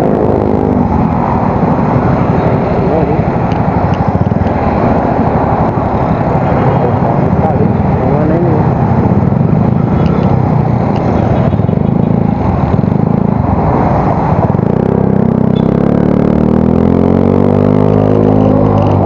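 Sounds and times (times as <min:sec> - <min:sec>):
scooter engine accelerating: 0:00.0 - 0:19.0.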